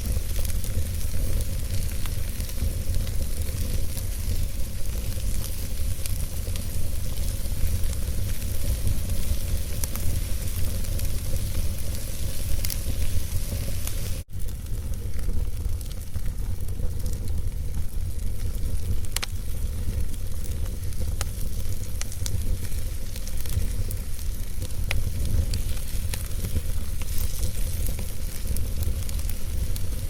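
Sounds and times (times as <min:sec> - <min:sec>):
fire flames rumbling: 0:00.0 - 0:30.0
log fire crackling and popping: 0:00.0 - 0:30.0.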